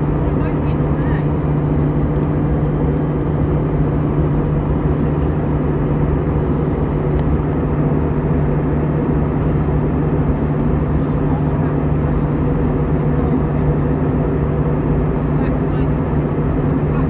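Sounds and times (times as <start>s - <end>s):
aircraft engine noise: 0.0s - 17.0s
airflow rush in cabin: 0.0s - 17.0s
steady low hum: 0.0s - 17.0s.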